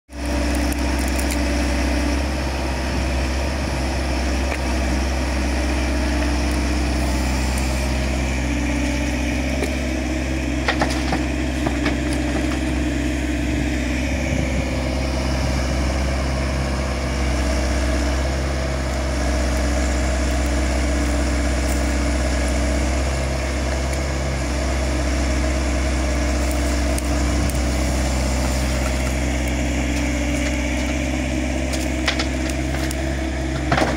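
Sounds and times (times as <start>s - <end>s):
diesel engine running: 0.1s - 33.9s
excavator digging earth: 0.1s - 33.9s.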